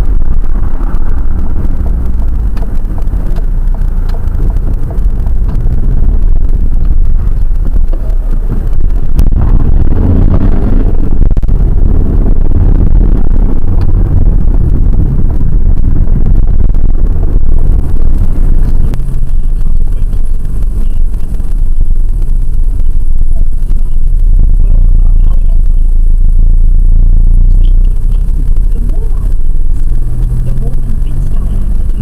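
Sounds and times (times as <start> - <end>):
engine and road rumble in car: 0.0 - 32.0.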